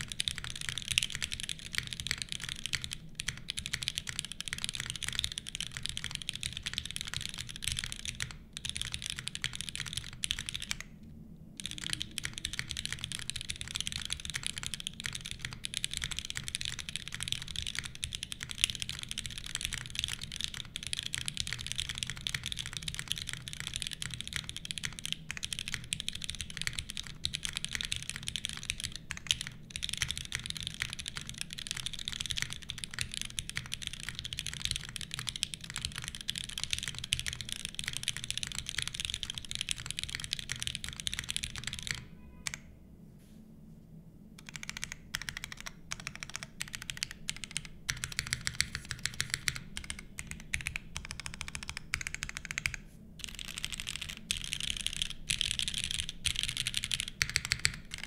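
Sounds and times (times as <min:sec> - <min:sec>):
fast mechanical keyboard typing: 0:00.0 - 0:10.9, 0:11.6 - 0:42.6, 0:44.4 - 0:58.0.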